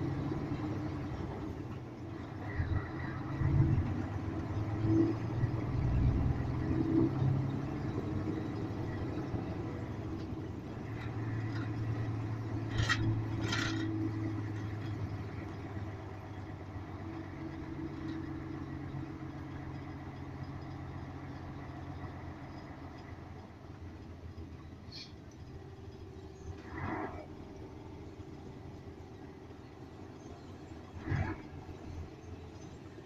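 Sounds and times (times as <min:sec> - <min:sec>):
lorry engine drone: 0:00.0 - 0:33.0.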